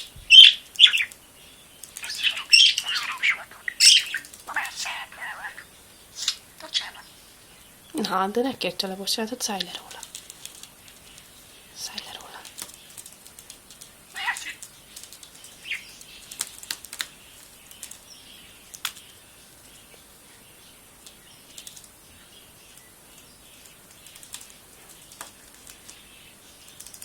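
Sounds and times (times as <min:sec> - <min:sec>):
budgerigars chirping and chattering: 0:00.0 - 0:10.1, 0:14.1 - 0:27.0.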